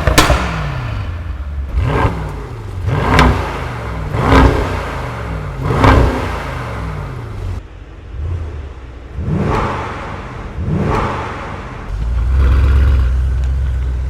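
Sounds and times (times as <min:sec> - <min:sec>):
car engine revving: 0:00.0 - 0:14.0
deep exhaust rumble: 0:00.0 - 0:14.0.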